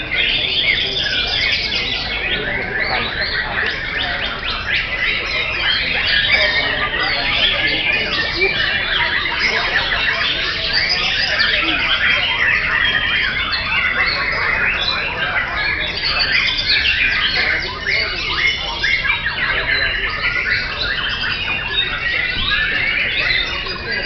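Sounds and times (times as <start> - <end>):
many birds singing: 0.0 - 24.0.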